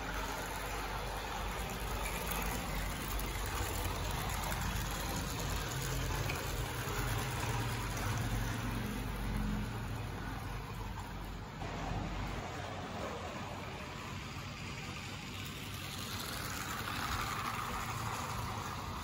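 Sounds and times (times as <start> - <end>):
toy train electric motor whirring: 0.0 - 11.0, 13.9 - 19.0.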